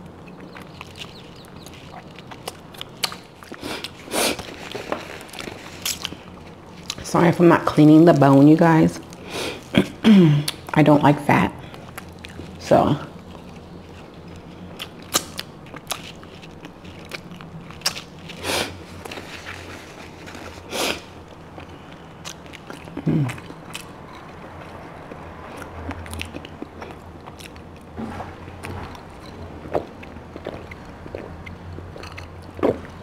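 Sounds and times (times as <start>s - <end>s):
person chewing: 0.0s - 7.0s, 11.6s - 33.0s
low steady hum: 0.0s - 33.0s.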